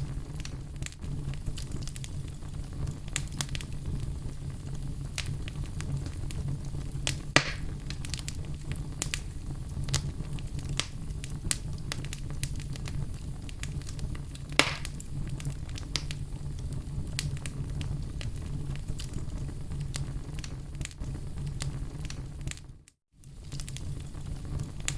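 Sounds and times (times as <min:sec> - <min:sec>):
loud fire pops: 0:00.0 - 0:24.9
wood fire crackling: 0:00.0 - 0:24.9.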